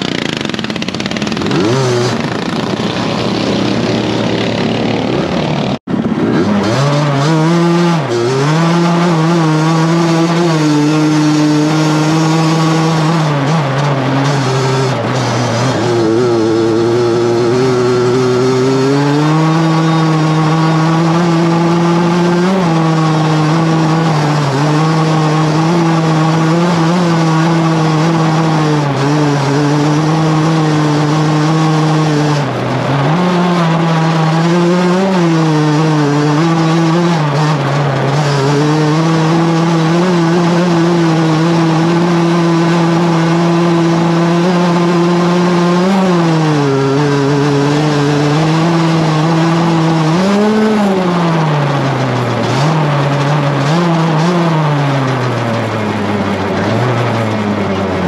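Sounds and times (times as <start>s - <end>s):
motorbike engine at high revs: 0.0s - 58.0s.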